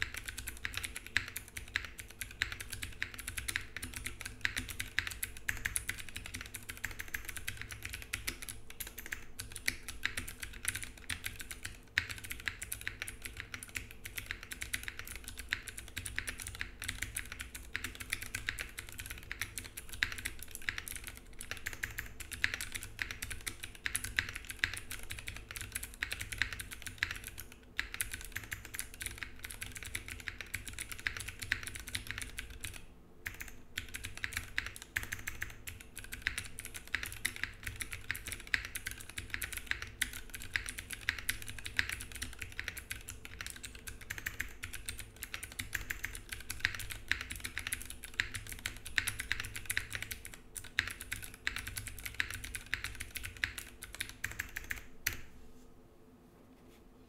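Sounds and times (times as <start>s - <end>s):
fast typing on mechanical keyboard: 0.0s - 55.3s.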